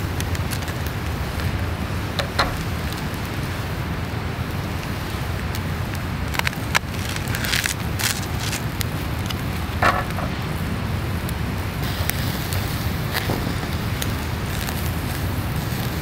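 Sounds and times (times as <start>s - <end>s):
charcoal grill crackling: 0.0s - 16.0s
wind rumble on microphone: 0.0s - 16.0s.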